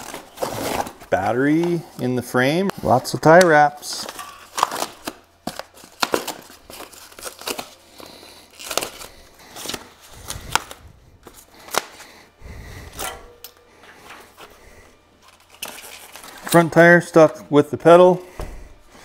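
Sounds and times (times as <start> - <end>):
plastic and foam wrapping rustling: 0.0 - 13.1, 13.7 - 19.0.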